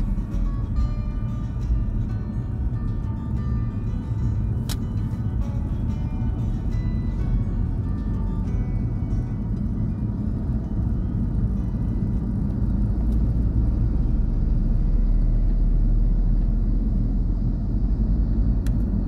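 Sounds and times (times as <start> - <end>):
car road noise inside cabin: 0.0 - 19.0.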